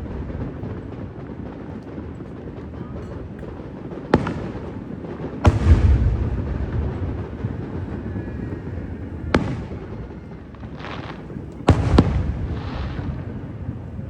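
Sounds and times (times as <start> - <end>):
distant echoing firework bursts: 0.0 - 14.0
firework bangs: 0.0 - 14.0.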